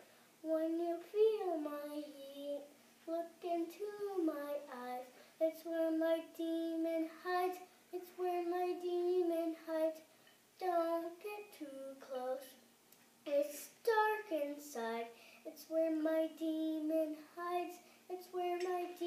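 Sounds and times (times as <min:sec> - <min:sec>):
boy singing unaccompanied: 0:00.4 - 0:12.6, 0:13.2 - 0:19.0.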